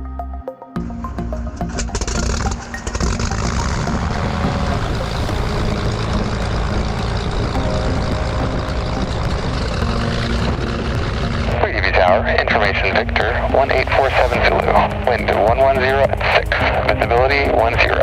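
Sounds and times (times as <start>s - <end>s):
piston engines and propellers: 0.9s - 18.0s.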